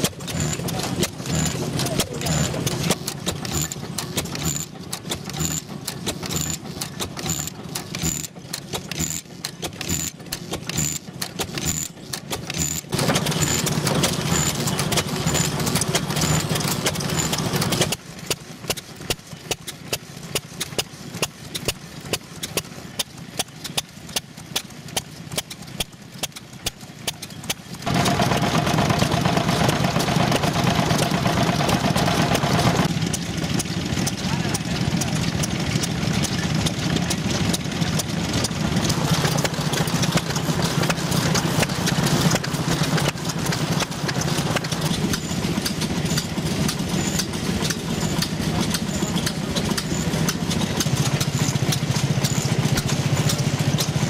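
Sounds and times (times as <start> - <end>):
farm engines running: 0.0 - 54.0.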